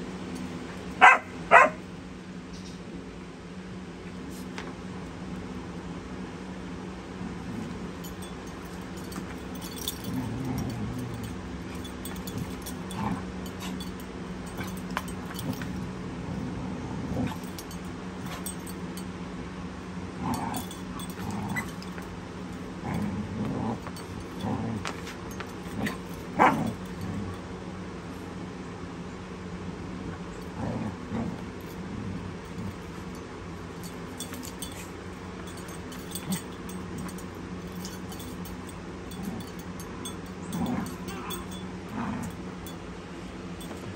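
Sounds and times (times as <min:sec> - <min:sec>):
low hum: 0:00.0 - 0:43.9.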